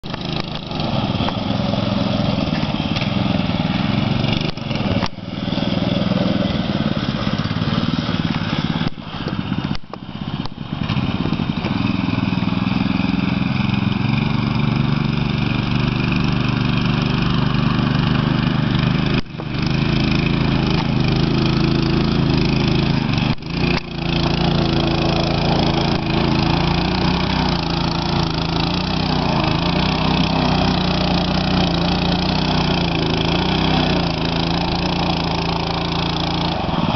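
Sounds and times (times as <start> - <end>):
minibike engine running hard: 0.0 - 36.9.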